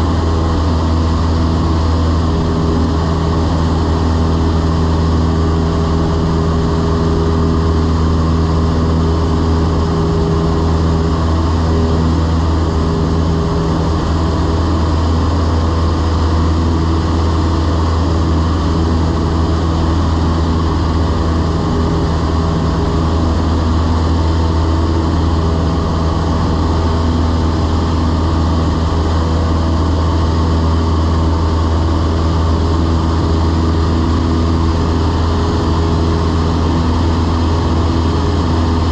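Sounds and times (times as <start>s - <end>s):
propeller plane engine drone: 0.0s - 38.9s.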